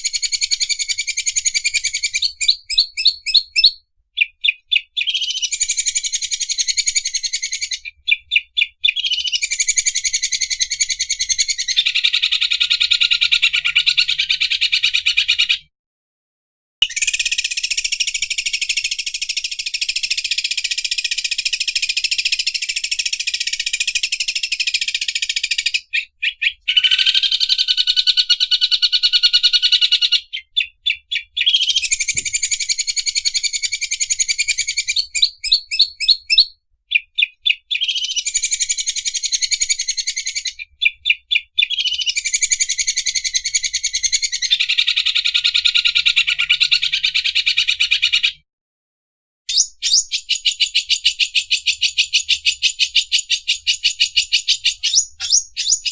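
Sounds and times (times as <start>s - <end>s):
bird singing rattling trills: 0.0s - 15.6s, 16.8s - 48.2s, 49.5s - 55.9s.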